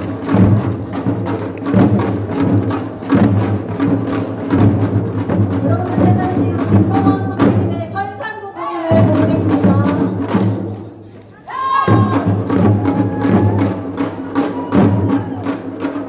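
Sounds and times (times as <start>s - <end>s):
drums beating steady rhythm: 0.0s - 16.0s.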